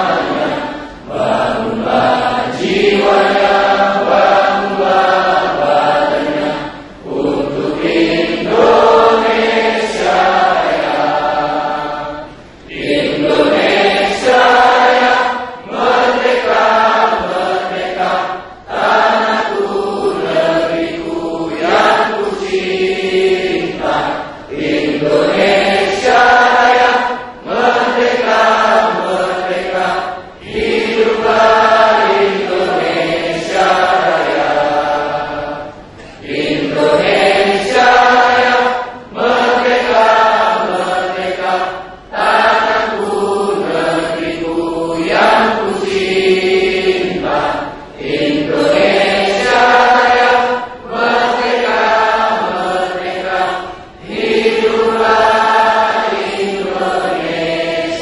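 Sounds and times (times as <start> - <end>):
voices singing in unison: 0.0 - 58.0.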